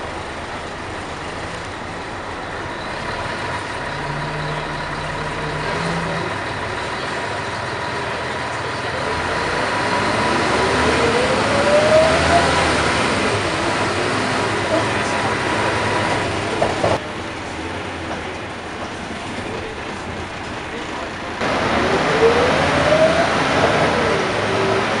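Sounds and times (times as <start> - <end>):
rising engine whine: 0.0 - 17.0, 21.4 - 25.0
bus diesel engine running: 0.0 - 25.0
road noise: 0.0 - 25.0.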